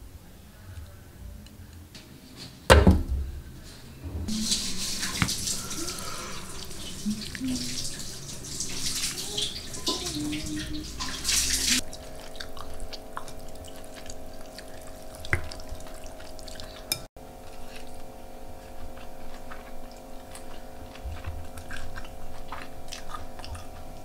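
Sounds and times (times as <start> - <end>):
water running: 4.0 - 24.0.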